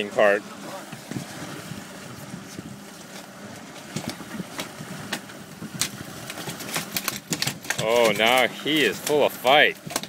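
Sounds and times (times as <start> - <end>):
outboard motor idling: 0.0 - 10.0
wind and water hiss: 0.0 - 10.0.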